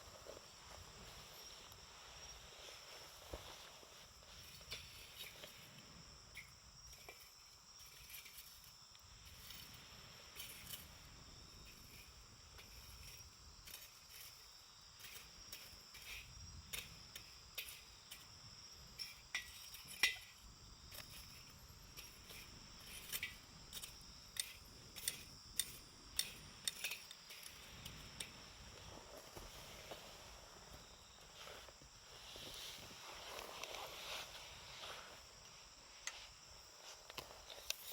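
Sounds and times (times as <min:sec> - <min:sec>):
high insect trill: 0:00.0 - 0:37.9.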